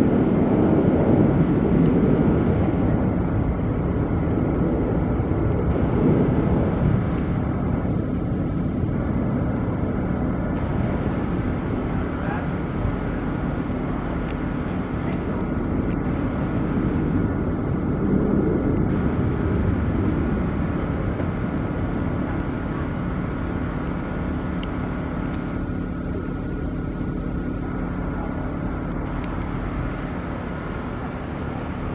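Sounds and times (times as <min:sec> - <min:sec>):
low engine rumble: 0:00.0 - 0:31.9.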